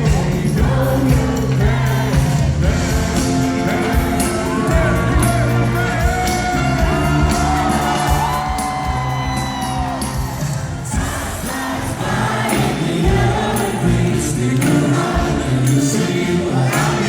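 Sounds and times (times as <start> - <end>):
drum beat: 0.0 - 17.0
live pop-rock band: 0.0 - 17.0
voices singing long notes: 0.0 - 17.0.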